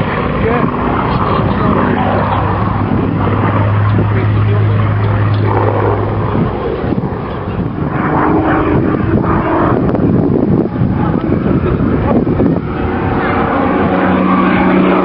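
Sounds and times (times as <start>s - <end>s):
aircraft engine droning: 0.0s - 15.0s
propeller sound: 0.0s - 15.0s.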